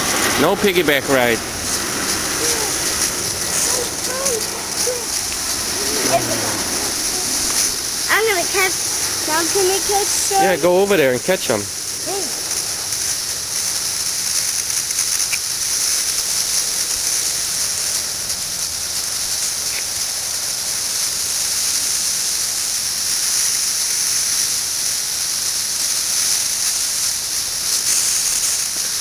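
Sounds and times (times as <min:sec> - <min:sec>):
cicadas buzzing: 0:00.0 - 0:29.0.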